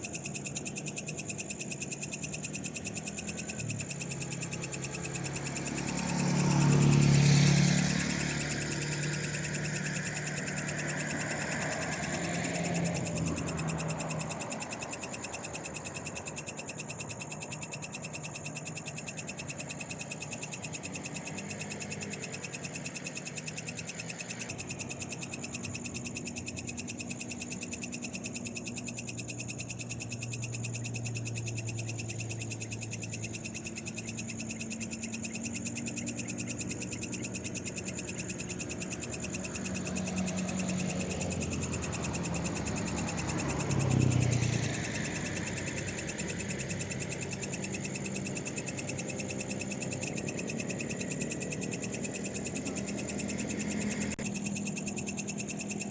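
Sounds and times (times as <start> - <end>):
frogs calling in pulsing trill: 0.0 - 55.9.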